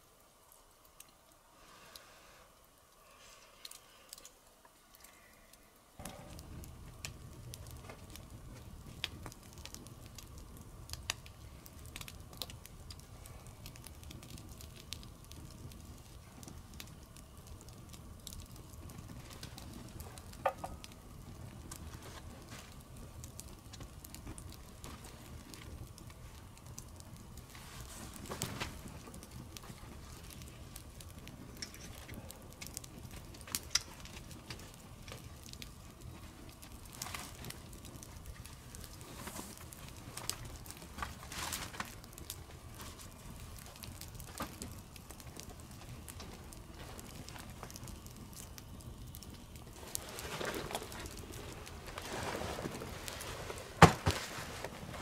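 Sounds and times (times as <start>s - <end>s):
campfire crackling and popping: 0.0s - 55.0s
low rumble of flame: 0.0s - 55.0s.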